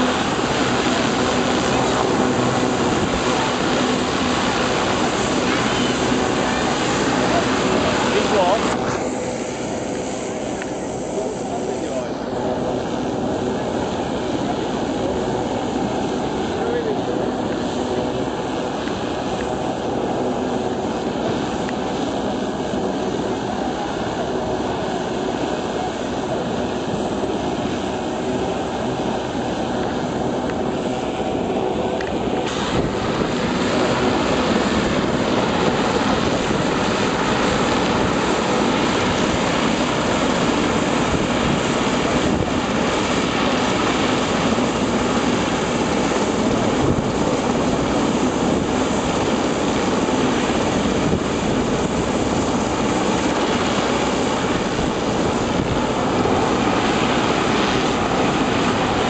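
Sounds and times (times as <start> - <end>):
model helicopter engine and rotor drone: 0.0 - 59.0.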